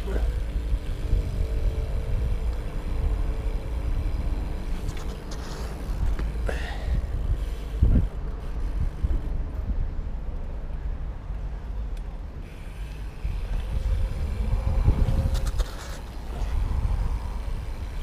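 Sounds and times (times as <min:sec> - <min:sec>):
wind buffeting microphone: 0:00.0 - 0:11.2, 0:12.4 - 0:18.0
bike tyres rolling on asphalt: 0:00.0 - 0:18.0.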